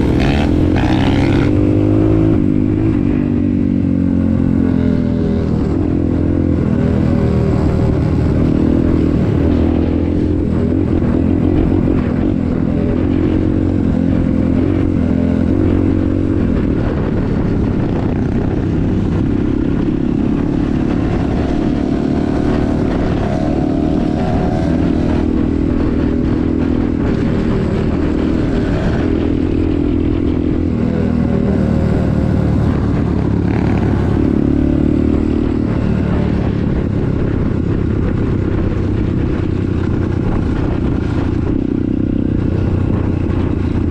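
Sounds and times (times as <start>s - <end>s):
vehicle engine revving: 0.0s - 18.6s, 19.4s - 43.9s.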